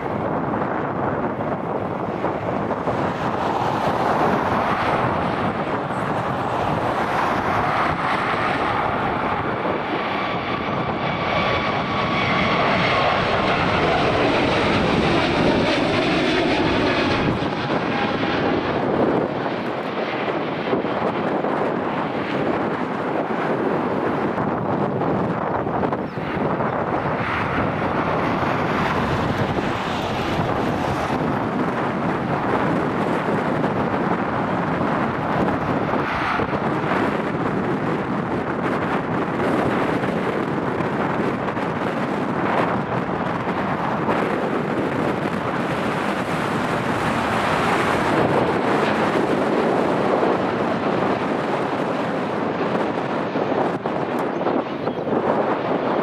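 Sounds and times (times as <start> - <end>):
jet engines roaring at takeoff: 0.0 - 56.0
wind buffeting microphone: 0.0 - 56.0.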